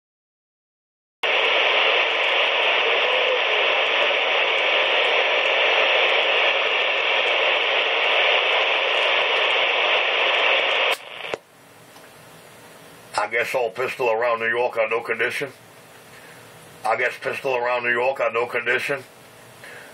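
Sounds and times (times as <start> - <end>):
radio static hiss: 1.2 - 11.5, 13.0 - 19.9.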